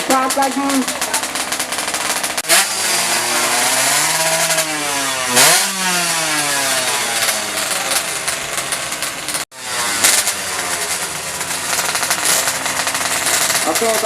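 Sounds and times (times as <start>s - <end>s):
two-stroke engine revving hard: 0.0s - 14.0s.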